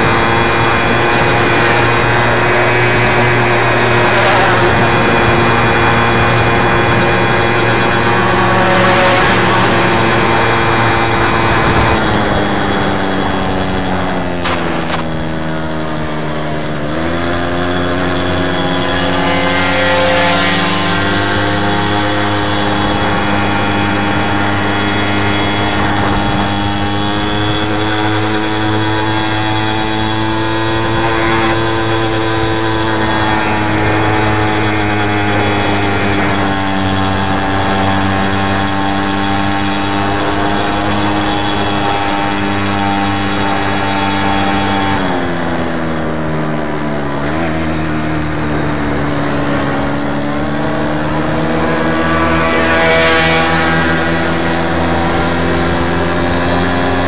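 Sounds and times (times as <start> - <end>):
moped two-stroke engine running: 0.0 - 57.0.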